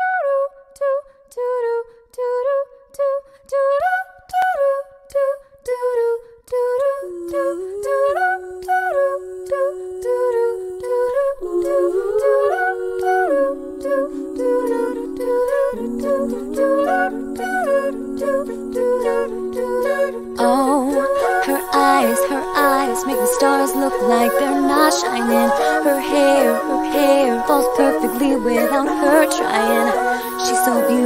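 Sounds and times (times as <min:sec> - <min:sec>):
a cappella vocal harmony: 0:00.0 - 0:31.0.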